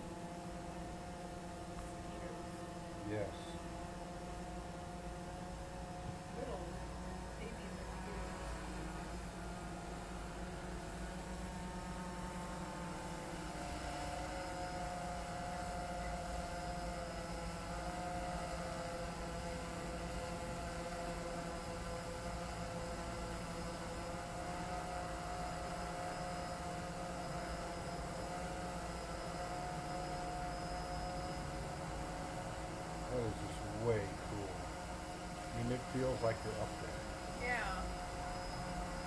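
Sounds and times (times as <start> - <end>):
drone propellers humming: 0.0 - 39.0.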